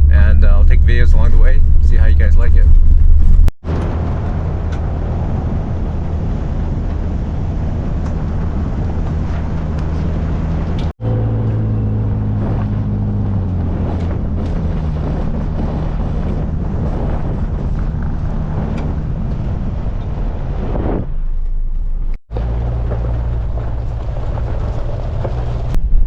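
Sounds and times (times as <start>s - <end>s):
car engine hum: 0.0s - 26.0s
tyre and road noise: 0.0s - 26.0s.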